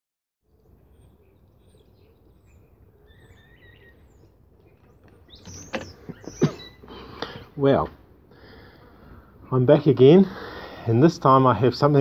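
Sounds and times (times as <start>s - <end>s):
low outdoor background noise: 0.4s - 12.0s
small birds chirping: 0.4s - 12.0s.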